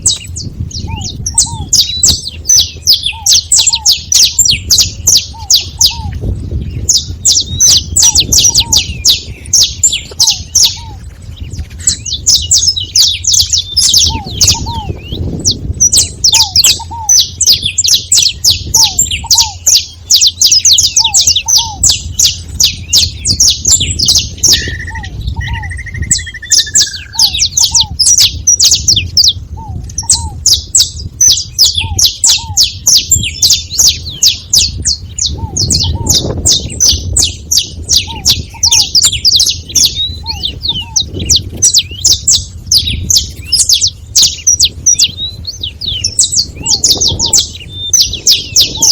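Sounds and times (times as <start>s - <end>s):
finches chirping: 0.0s - 48.9s.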